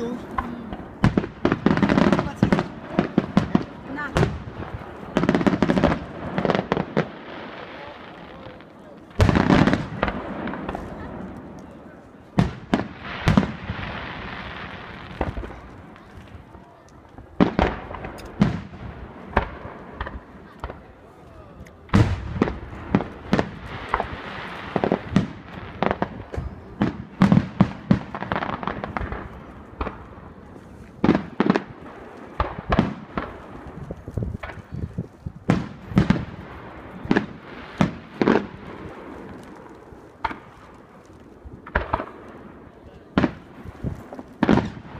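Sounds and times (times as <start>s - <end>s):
fireworks bangs and booms: 0.0s - 44.9s
fireworks crackling: 0.0s - 44.9s.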